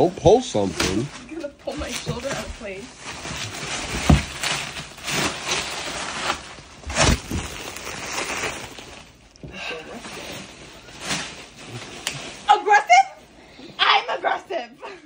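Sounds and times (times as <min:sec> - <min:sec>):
shrink wrap ripping and crinkling: 0:00.0 - 0:12.8.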